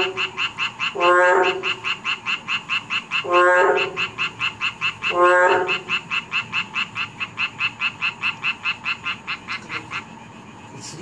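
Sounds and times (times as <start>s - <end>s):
low frog croak: 0.0s - 10.2s
fast train of frog calls: 0.0s - 11.0s.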